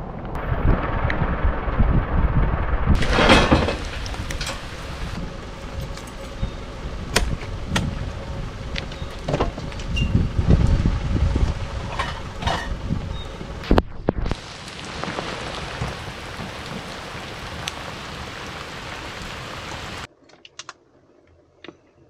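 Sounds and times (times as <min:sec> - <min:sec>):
rain: 0:00.0 - 0:20.1
wind gusting over microphone: 0:00.0 - 0:20.1.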